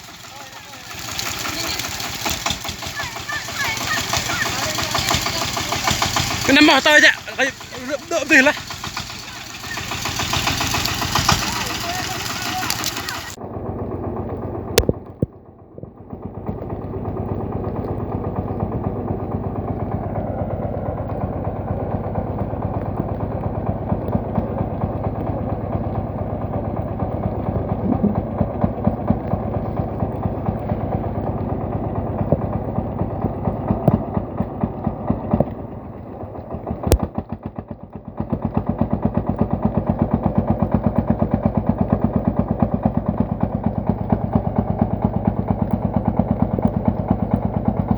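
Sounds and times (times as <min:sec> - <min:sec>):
diesel engine chugging: 0:00.0 - 0:47.9.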